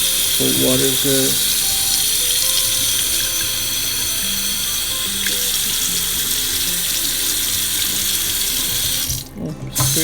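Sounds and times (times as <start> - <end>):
background music: 0.0 - 10.0
water running into sink: 0.0 - 10.0.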